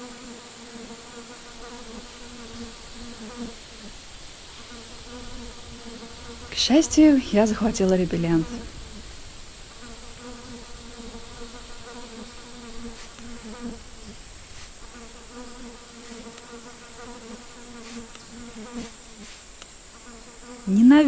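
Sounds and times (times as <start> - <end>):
flying insect buzzing: 0.0 - 21.0.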